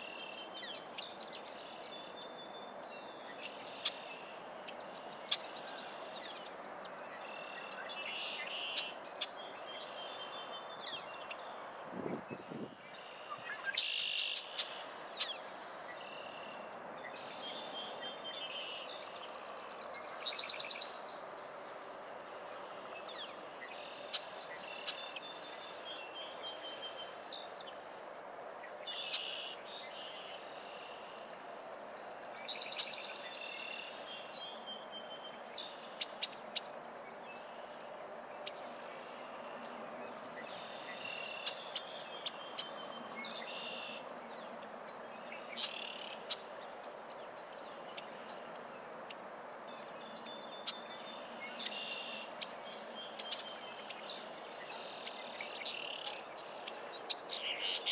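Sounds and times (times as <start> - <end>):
small birds chirping and trilling: 0.0 - 57.9
steady background noise: 0.0 - 57.9.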